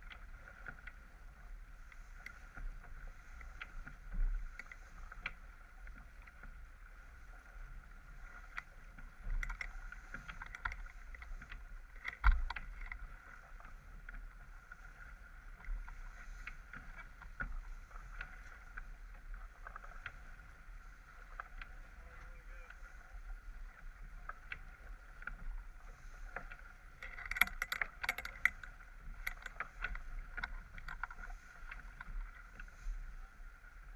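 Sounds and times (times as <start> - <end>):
water rushing along a boat hull: 0.0 - 33.9
waves slapping the hull: 0.0 - 33.9.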